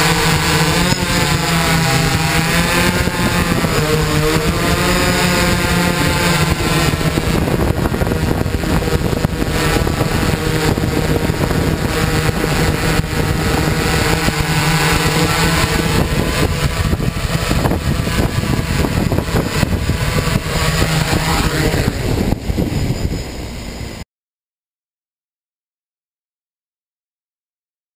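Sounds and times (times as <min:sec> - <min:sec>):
drone propellers buzzing: 0:00.0 - 0:24.0.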